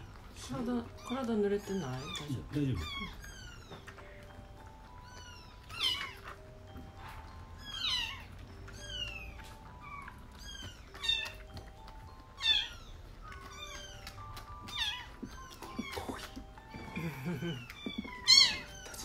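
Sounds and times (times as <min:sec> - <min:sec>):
kittens mewing: 0:00.0 - 0:19.0
soft background music: 0:00.0 - 0:19.0.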